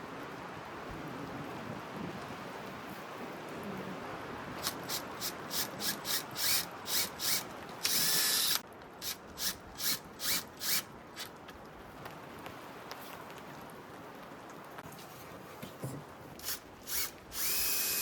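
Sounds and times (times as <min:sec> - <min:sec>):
wind and rain hiss: 0:00.0 - 0:18.0.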